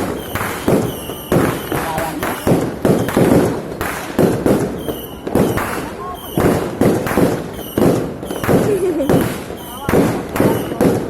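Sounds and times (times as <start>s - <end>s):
fireworks bangs with crackling: 0.0s - 11.0s
fireworks whistles: 0.0s - 11.0s.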